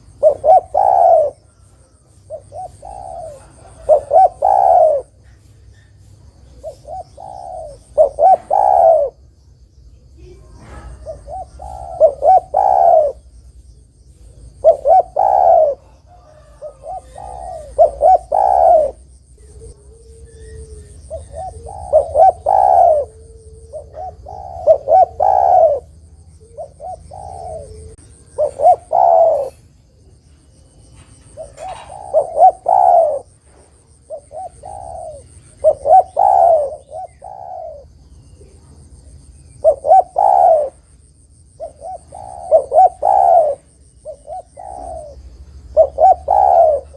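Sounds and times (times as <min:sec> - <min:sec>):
dove cooing: 0:00.0 - 0:05.8, 0:06.4 - 0:09.2, 0:10.2 - 0:13.4, 0:14.1 - 0:46.9.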